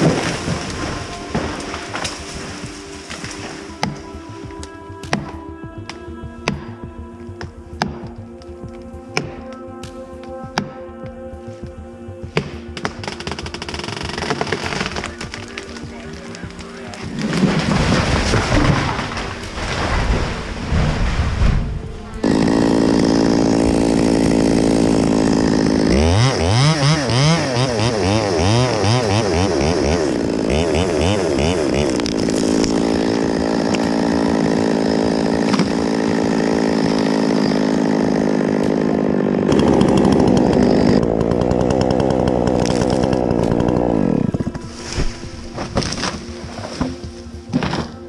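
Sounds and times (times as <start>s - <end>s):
chainsaw running: 0.0s - 10.8s, 11.4s - 48.0s.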